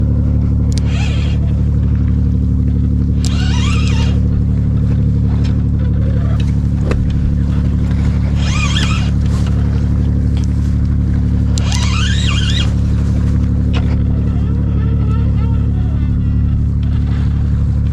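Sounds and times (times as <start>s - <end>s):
engine running drone: 0.0s - 17.9s.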